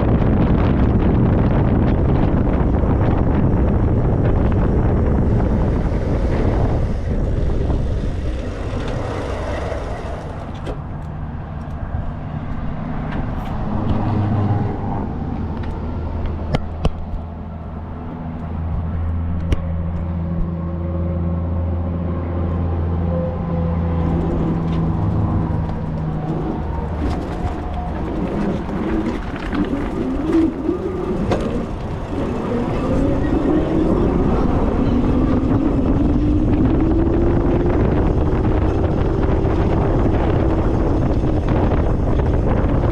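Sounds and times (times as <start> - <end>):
low engine hum: 0.0 - 42.9
wind rushing over microphone: 0.0 - 42.9.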